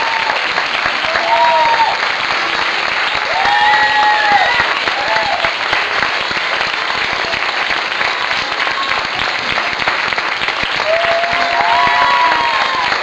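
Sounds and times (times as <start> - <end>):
audience applause: 0.0 - 13.0.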